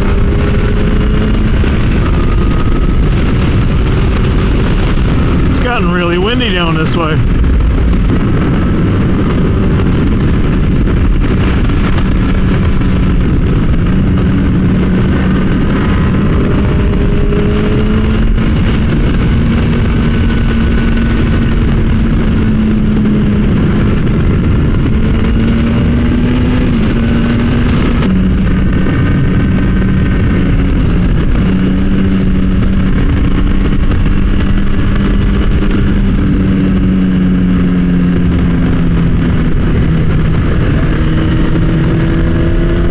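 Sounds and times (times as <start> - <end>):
motorcycle engine cruising: 0.0 - 42.9
wind rushing on microphone: 0.0 - 42.9.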